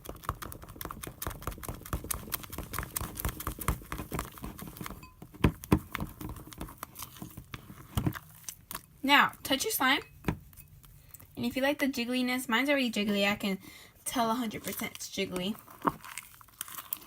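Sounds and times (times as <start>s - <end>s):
slime squelching in a bowl: 0.0s - 11.6s, 12.6s - 17.0s.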